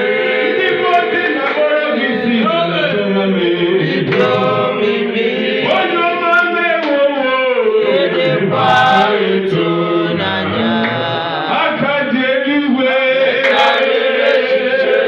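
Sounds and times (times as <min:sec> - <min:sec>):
man singing into a microphone: 0:00.0 - 0:15.0
voices singing along: 0:00.0 - 0:15.0.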